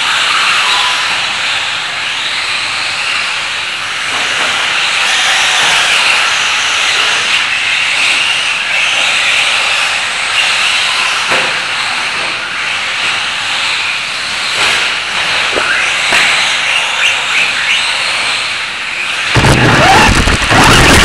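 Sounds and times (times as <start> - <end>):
rc truck motor whines: 0.0 - 21.0.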